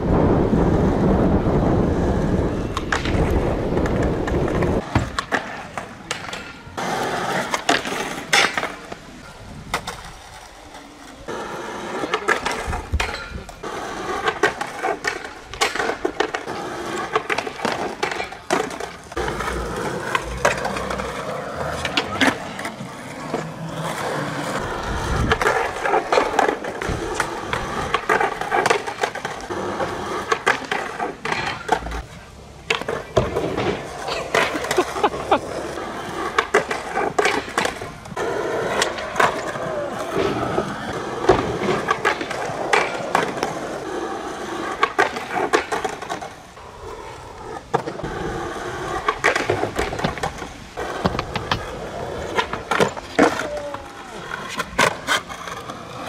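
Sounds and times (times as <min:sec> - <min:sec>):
skateboard clacks and slaps: 0:00.0 - 0:56.0
skateboard wheels rumbling on asphalt: 0:00.0 - 0:56.0.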